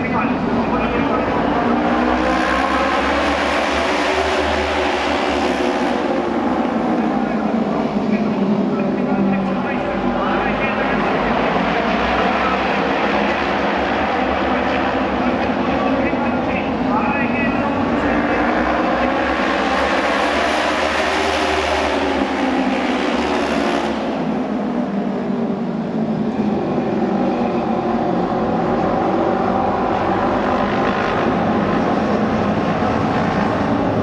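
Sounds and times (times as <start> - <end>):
racing motorcycles engine drone: 0.0 - 34.0.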